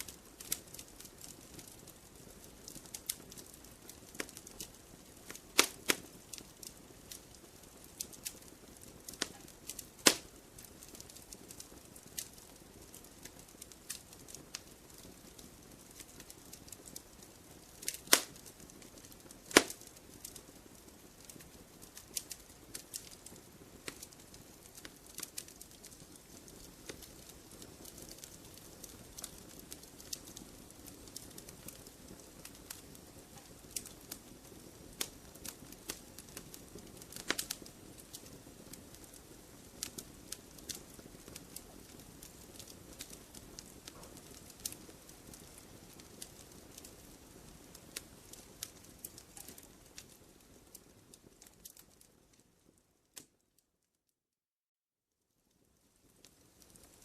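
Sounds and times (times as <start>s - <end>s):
flames hissing: 0.0s - 50.9s
campfire crackling: 0.0s - 53.4s, 55.5s - 57.0s
wood fire popping: 0.0s - 53.4s, 55.5s - 57.0s.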